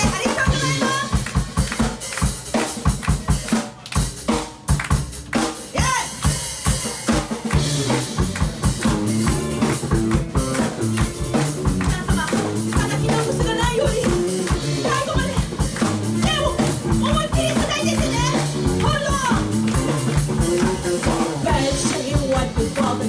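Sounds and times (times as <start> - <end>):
kick and snare drums: 0.0 - 23.0
live rock band playing: 0.0 - 23.0.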